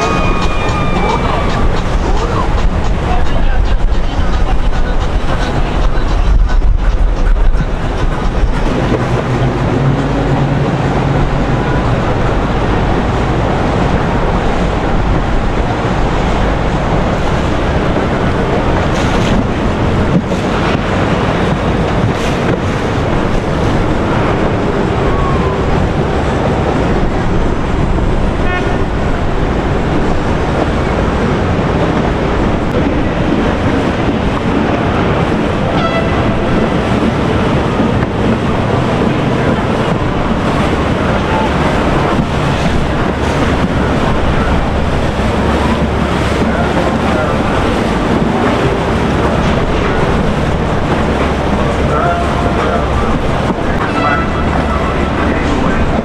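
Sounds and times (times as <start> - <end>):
boat engines running: 0.0 - 56.0
rushing water: 0.0 - 56.0
wind buffeting microphone: 0.0 - 56.0.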